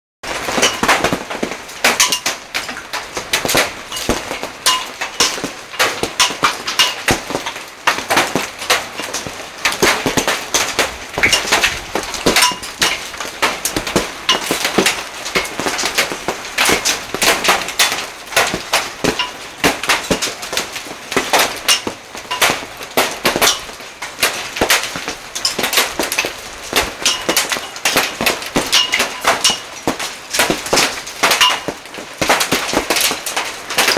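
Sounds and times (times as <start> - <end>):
hail clattering on hard surfaces: 0.2 - 33.9.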